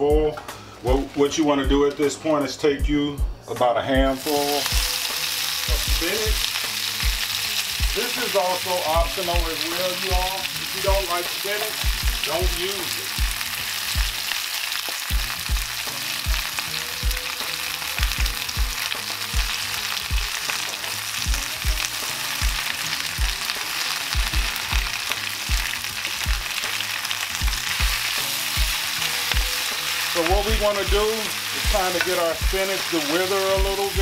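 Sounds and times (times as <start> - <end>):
leaves sizzling in hot oil: 4.1 - 34.0.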